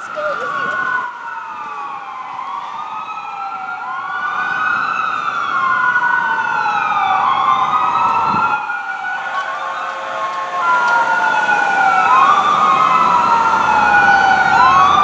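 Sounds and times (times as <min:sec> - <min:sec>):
sirens wailing: 0:00.0 - 0:15.0.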